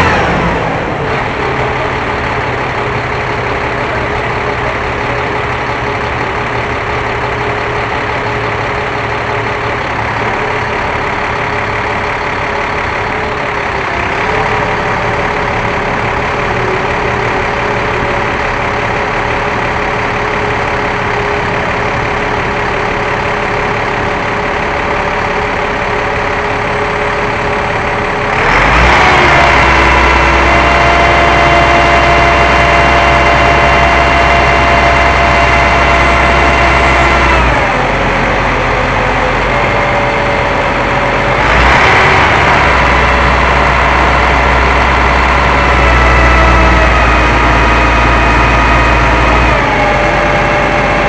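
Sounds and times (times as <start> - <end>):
drone propellers humming: 0.0 - 51.0.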